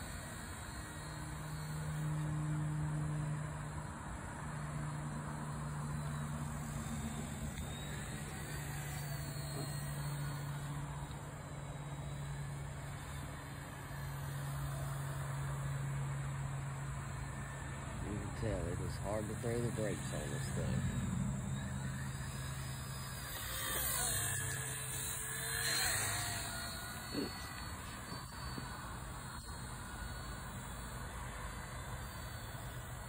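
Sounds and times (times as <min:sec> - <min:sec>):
toy helicopter rotor buzz: 0:00.0 - 0:33.0.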